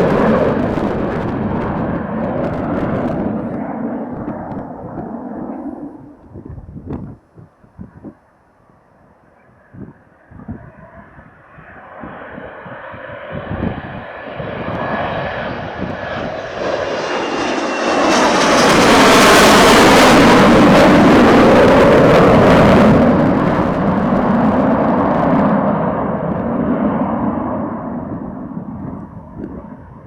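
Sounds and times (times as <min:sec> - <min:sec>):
jet engines whistle and rumble: 0:00.0 - 0:30.0
wind buffeting microphone: 0:00.0 - 0:30.0.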